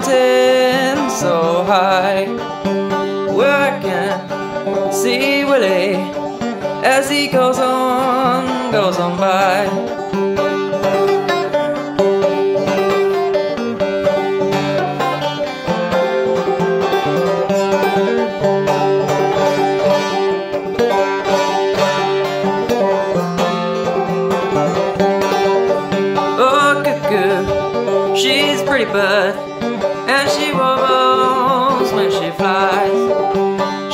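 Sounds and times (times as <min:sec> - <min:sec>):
banjo picking: 0:00.0 - 0:33.9.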